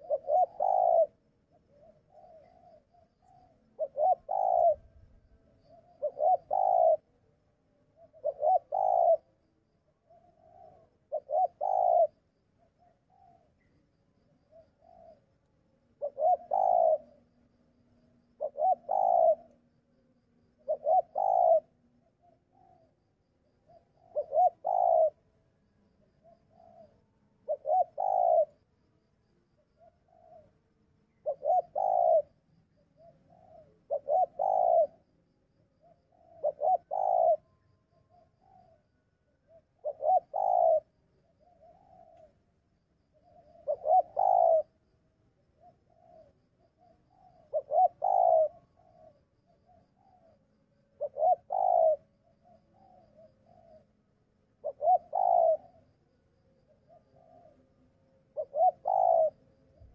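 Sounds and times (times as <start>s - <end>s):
dove cooing: 0.0s - 13.8s, 14.4s - 17.4s, 18.0s - 19.8s, 20.5s - 25.3s, 26.0s - 28.6s, 29.6s - 35.1s, 35.8s - 59.9s.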